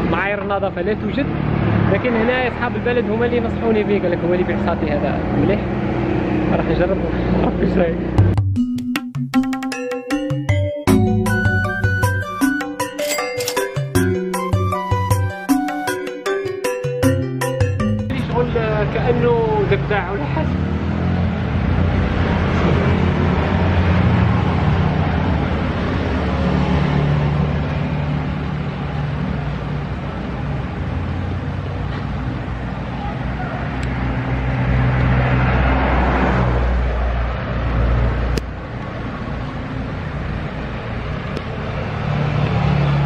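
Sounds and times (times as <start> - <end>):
road traffic rumble: 0.0 - 8.4, 9.7 - 43.0.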